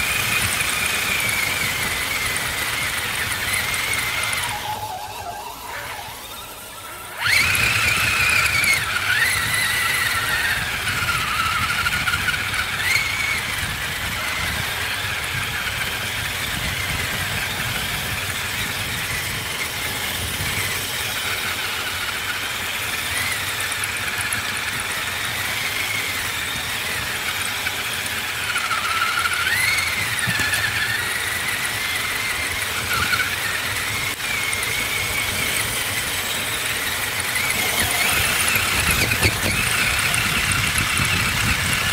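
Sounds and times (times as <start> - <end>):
electric motor whining: 0.0 - 41.9
tyres rumbling on dirt: 0.0 - 41.9.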